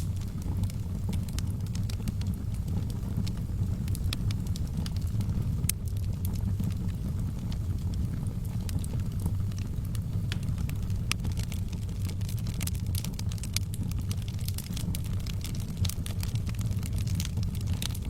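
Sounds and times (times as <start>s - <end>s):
burning logs crackling: 0.0s - 18.0s
low rumble of flames: 0.0s - 18.0s.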